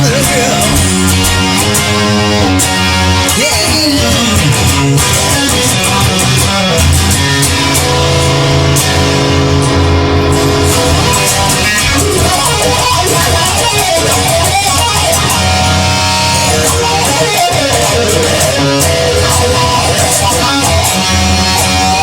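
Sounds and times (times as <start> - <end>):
rock guitar over beat: 0.0 - 22.0.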